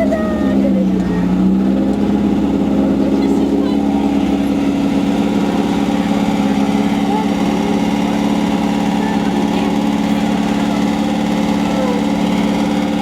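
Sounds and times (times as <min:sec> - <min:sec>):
buggy engine idling: 0:00.0 - 0:13.0.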